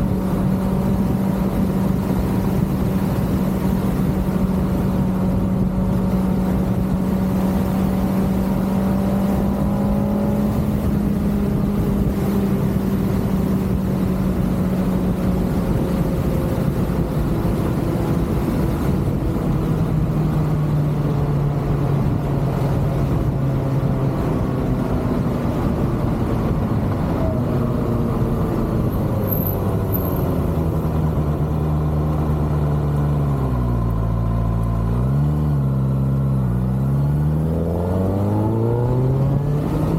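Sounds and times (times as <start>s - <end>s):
wind noise: 0.0s - 34.2s
motorcycle engine running: 0.0s - 37.6s.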